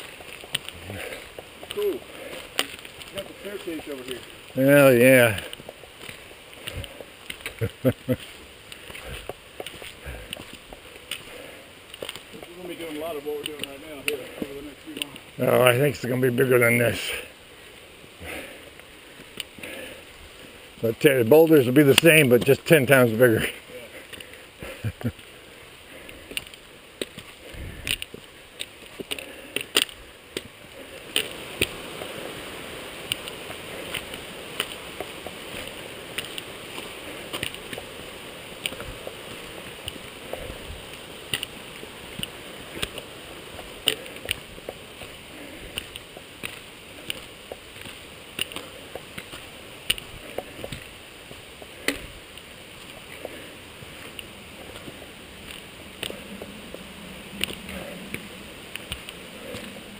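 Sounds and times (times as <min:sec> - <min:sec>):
walking stick tapping rock: 0:00.0 - 0:15.8, 0:19.2 - 0:19.8, 0:21.0 - 0:25.3, 0:26.0 - 0:59.8
stream rushing: 0:00.0 - 0:26.0, 0:26.6 - 0:59.9
footsteps on rocky trail: 0:00.0 - 0:59.9.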